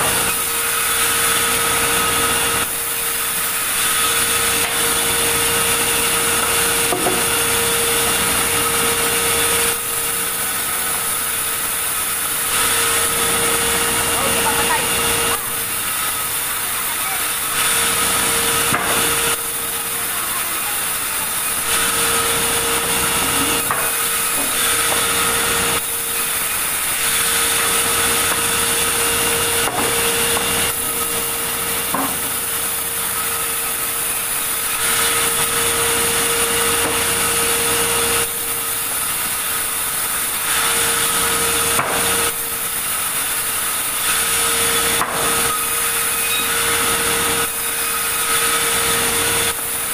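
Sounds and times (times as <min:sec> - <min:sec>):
steady machine hum: 0:00.0 - 0:40.5
saw cutting through log: 0:00.0 - 0:49.9.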